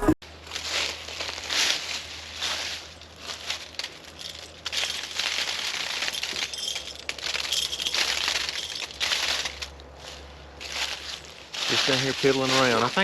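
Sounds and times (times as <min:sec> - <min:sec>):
crunching and rustling: 0:00.2 - 0:13.0.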